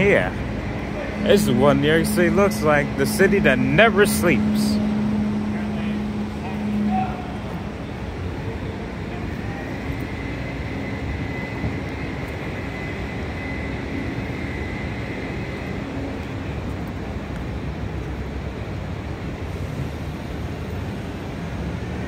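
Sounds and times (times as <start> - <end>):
city street rumble: 0.0 - 22.0
faint high whine: 0.0 - 22.0.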